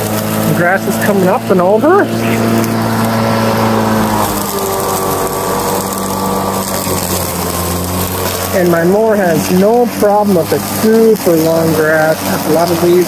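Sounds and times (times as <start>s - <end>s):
electric lawn mower humming: 0.0s - 13.0s.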